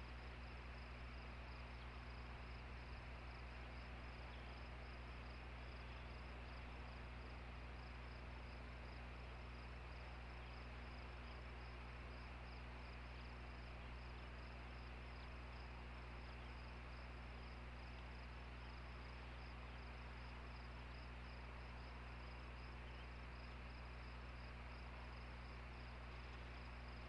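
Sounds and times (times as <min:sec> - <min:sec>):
electrical hum and hiss: 0:00.0 - 0:27.0.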